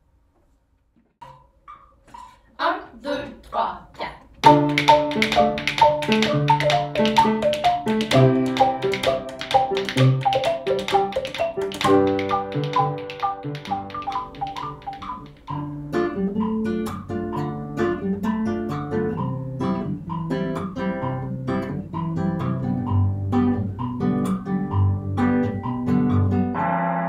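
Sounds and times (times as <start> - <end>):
classical guitar plucking: 4.4 - 27.0.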